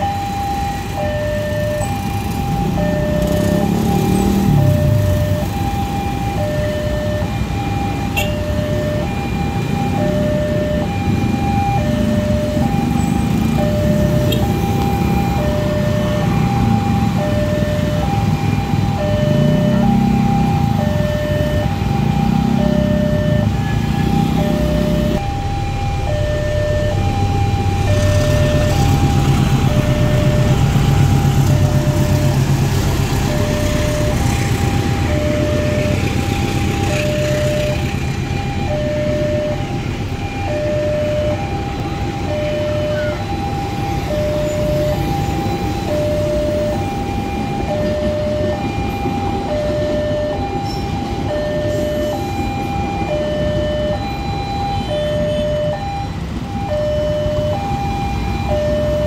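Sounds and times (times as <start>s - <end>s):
level crossing two-tone alarm: 0.0s - 59.0s
train passing with heavy rumble: 0.0s - 59.0s.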